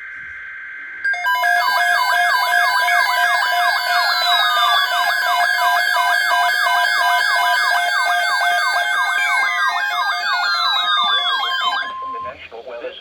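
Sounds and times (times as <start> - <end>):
steady and pulsed tones: 0.0 - 12.3
fast electronic siren sweep: 1.1 - 12.2.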